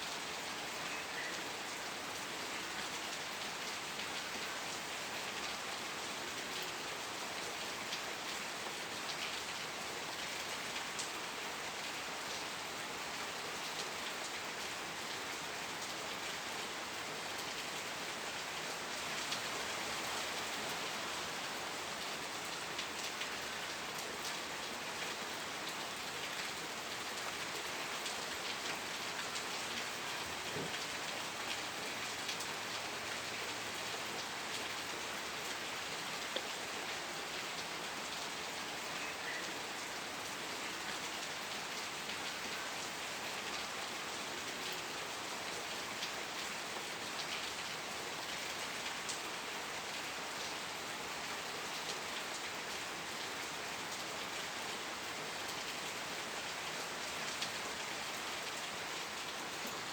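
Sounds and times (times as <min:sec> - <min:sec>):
steady rain: 0:00.0 - 0:59.9
raindrops ticking on a surface: 0:00.1 - 0:50.7.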